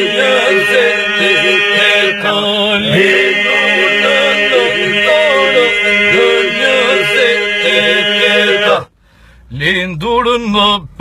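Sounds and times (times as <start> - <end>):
men singing folk polyphony: 0.0 - 8.9.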